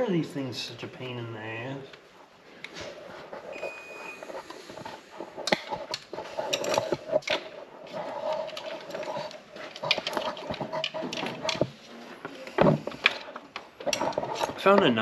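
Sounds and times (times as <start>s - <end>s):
steady hum: 0.0s - 15.0s
wire connectors clicking and rattling: 1.8s - 15.0s.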